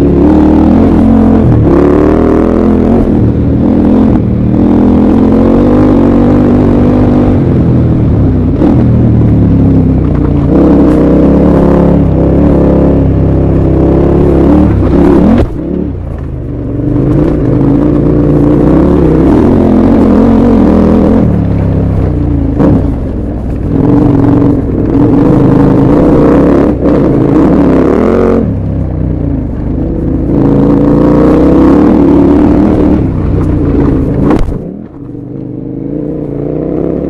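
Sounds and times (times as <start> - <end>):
motorcycle engine on gravel track: 0.0 - 37.0.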